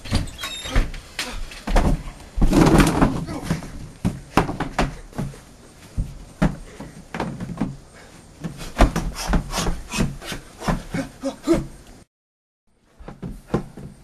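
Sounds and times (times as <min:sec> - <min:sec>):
person crawling on wooden floor: 0:00.1 - 0:11.7.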